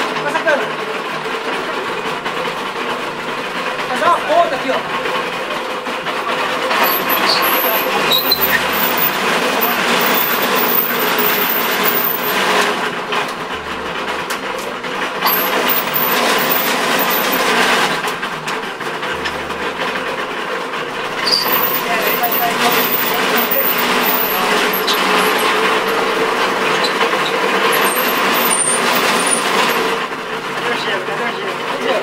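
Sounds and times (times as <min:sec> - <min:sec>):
sugarcane press crushing: 0:01.2 - 0:31.1.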